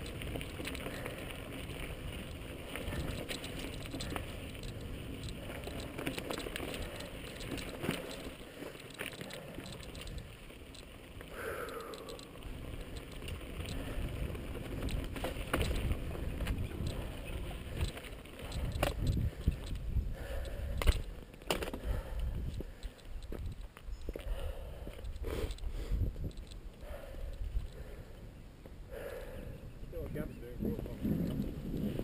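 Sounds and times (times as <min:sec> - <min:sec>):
wind rumble on microphone: 0:00.0 - 0:08.3, 0:12.1 - 0:21.2, 0:21.8 - 0:32.0
bike rattling over rocks: 0:00.0 - 0:27.9, 0:30.6 - 0:32.0
tyres on dirt and stone: 0:00.0 - 0:29.3, 0:29.9 - 0:32.0.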